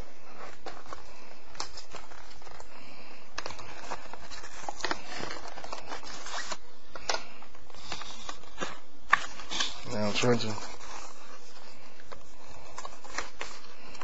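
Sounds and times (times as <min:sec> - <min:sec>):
packaging crinkling and rustling: 0:00.0 - 0:14.0
packaging crackles and snaps: 0:00.4 - 0:14.0.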